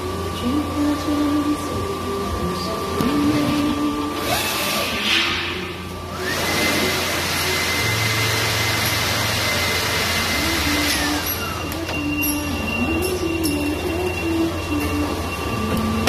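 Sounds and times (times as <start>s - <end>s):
machine whine: 0.0s - 16.0s
air hissing: 3.0s - 16.0s.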